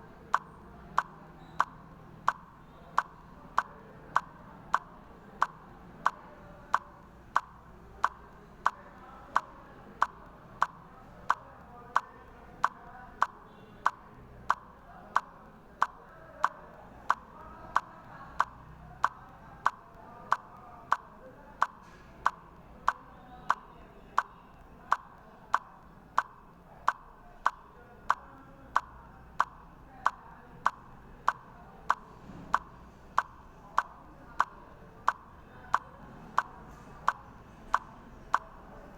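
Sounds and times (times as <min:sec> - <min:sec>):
sharp ticking: 0:00.2 - 0:38.8.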